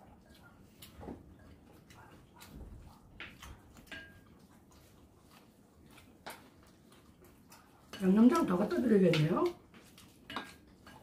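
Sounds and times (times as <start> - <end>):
chopsticks and spoons tapping bowls: 0.0 - 11.0.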